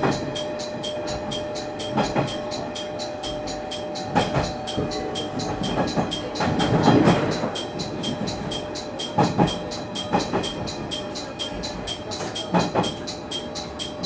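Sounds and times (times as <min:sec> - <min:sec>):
cab warning alarm: 0:00.0 - 0:14.0
railcar running noise: 0:00.0 - 0:14.0.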